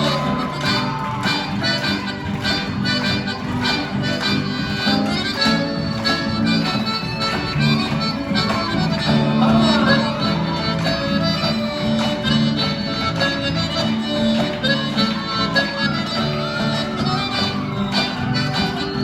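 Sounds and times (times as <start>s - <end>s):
accordion melody: 0.0s - 19.0s
guitar accompaniment: 0.0s - 19.0s
rhythmic bass: 0.0s - 19.0s.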